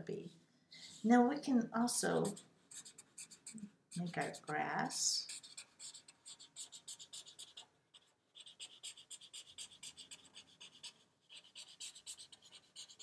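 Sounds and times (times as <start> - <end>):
marker scratching on paper: 2.1 - 13.0.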